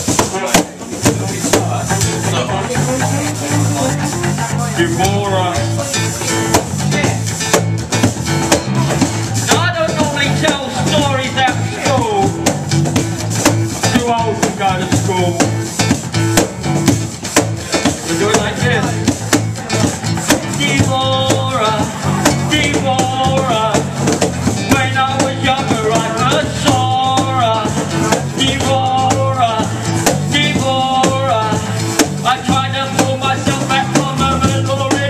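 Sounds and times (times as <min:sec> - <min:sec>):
acoustic guitar: 0:00.0 - 0:35.0
bass guitar: 0:00.0 - 0:35.0
cajon beat: 0:00.0 - 0:35.0.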